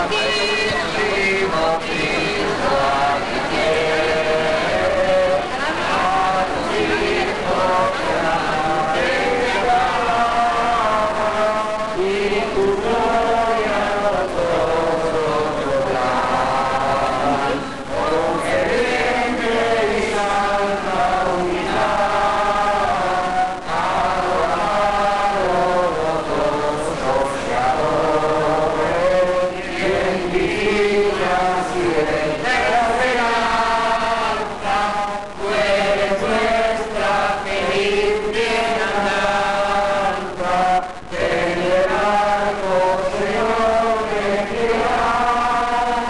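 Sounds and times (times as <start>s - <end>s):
congregation singing a hymn: 0.0s - 46.0s.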